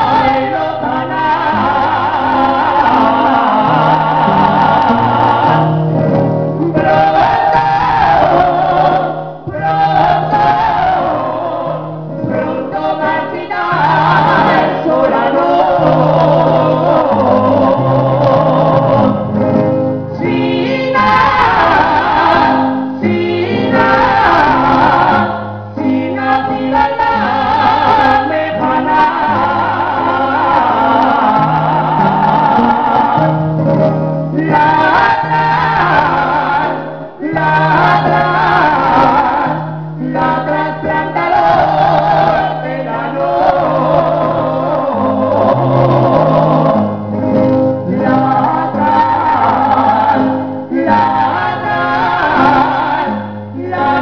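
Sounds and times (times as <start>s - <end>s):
man and woman singing duet: 0.0s - 54.0s
plucked guitars: 0.0s - 54.0s.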